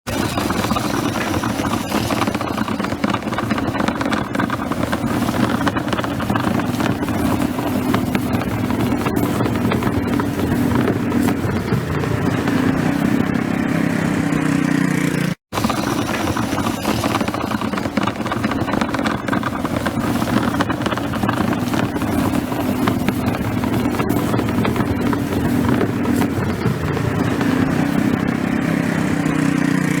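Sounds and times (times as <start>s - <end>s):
push sweeper brushing pavement: 0.0s - 30.0s.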